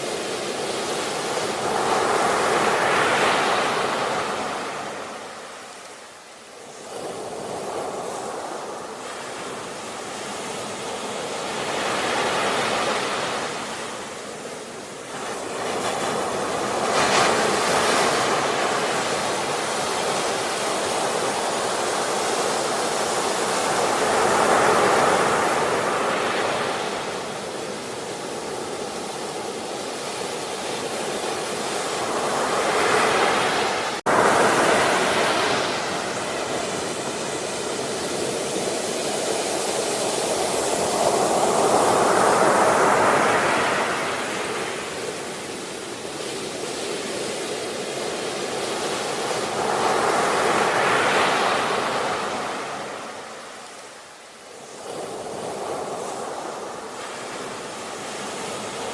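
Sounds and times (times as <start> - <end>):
ocean waves washing ashore: 0.0 - 58.9.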